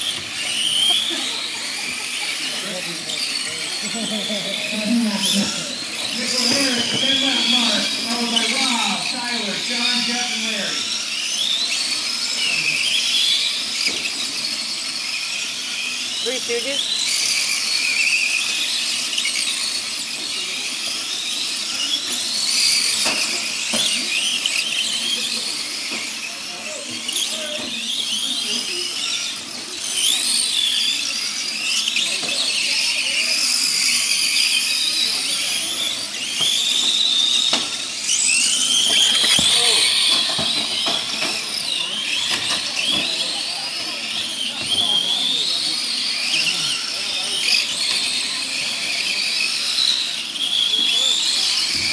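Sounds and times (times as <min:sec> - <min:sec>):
model truck motors whining: 0:00.0 - 0:51.9.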